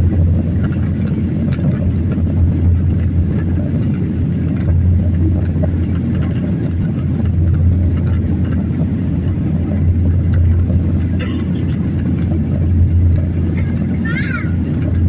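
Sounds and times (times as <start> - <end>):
airliner engines rumbling: 0.0 - 15.0
rushing air in cabin: 0.0 - 15.0.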